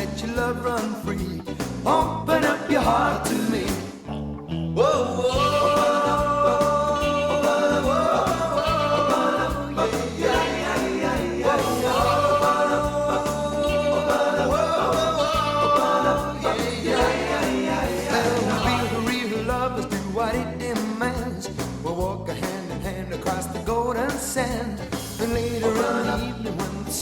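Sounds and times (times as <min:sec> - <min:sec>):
drums: 0:00.0 - 0:04.2, 0:05.2 - 0:27.0
rock and roll song: 0:00.0 - 0:27.0
stepping bass line: 0:00.0 - 0:27.0.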